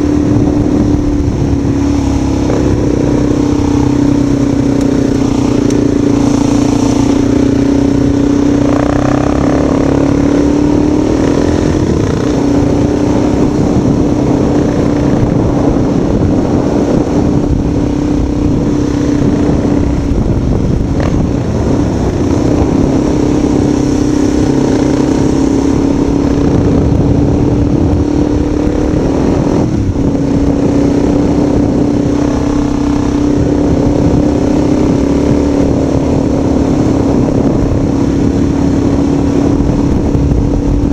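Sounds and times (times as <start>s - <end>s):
vehicle engine running: 0.0s - 40.9s
wind and road noise: 0.0s - 40.9s.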